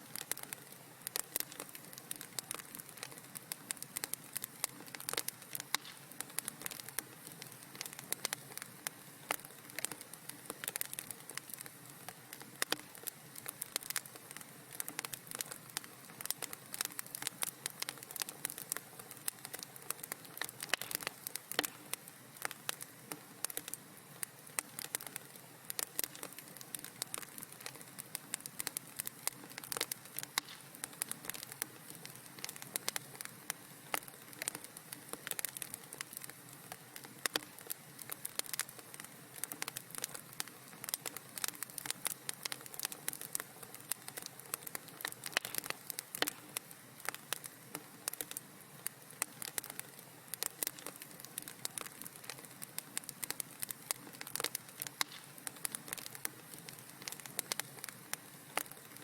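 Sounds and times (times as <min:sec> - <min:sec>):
soft steady hiss: 0:00.0 - 0:59.0
wood fire crackling: 0:00.0 - 0:59.0.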